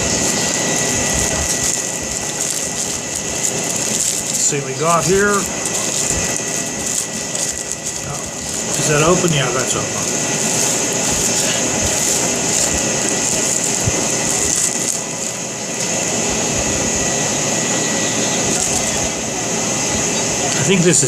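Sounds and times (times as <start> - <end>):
packaging rustling: 0.0 - 21.0.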